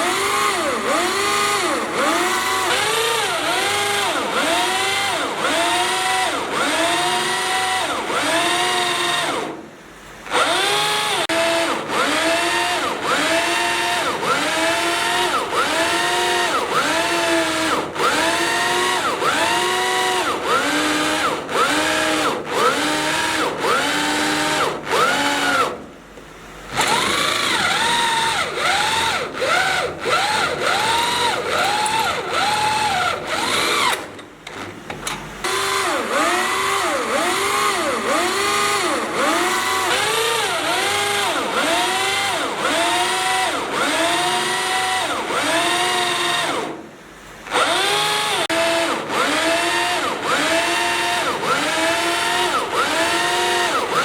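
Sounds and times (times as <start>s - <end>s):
power drill boring into steel: 0.0s - 9.6s, 10.2s - 25.8s, 26.7s - 34.6s, 35.4s - 46.8s, 47.5s - 54.0s.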